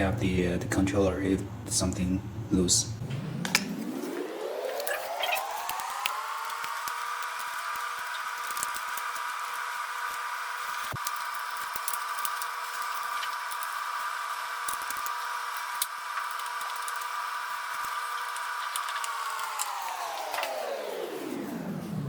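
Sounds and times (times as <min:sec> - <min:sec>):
electric screwdriver whining: 0:04.1 - 0:21.8.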